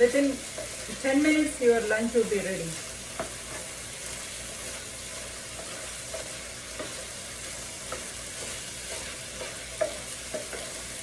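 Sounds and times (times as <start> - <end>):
food sizzling in a skillet: 0.0 - 11.0
wooden spatula scraping a pan: 0.0 - 11.0.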